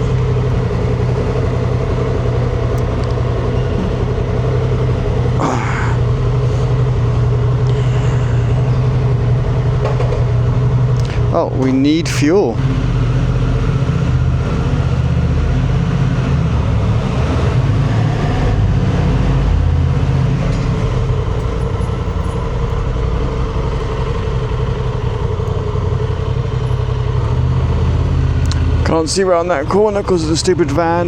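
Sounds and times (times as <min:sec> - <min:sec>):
motorcycle engine running: 0:00.0 - 0:31.0
road and wind noise: 0:00.0 - 0:31.0.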